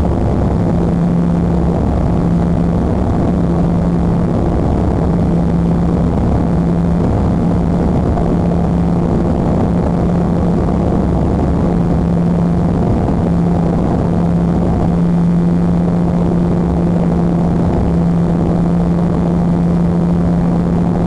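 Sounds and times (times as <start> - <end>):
airliner propeller drone: 0.0 - 21.0
low hum: 0.0 - 21.0.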